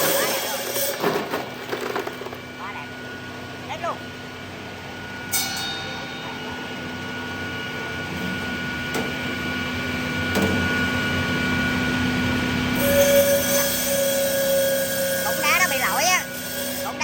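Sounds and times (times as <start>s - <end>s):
ice cutting machine motor hum: 0.0s - 17.0s.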